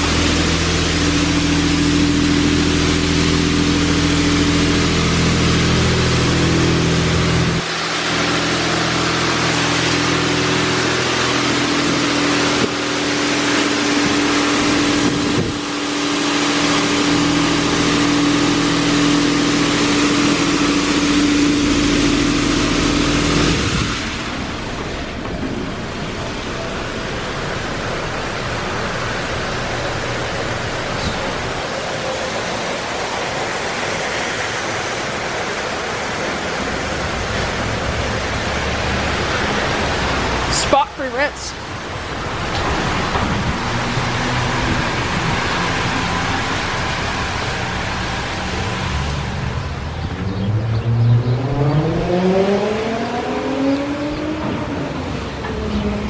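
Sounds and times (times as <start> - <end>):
steady machine whine: 0.0 - 55.8.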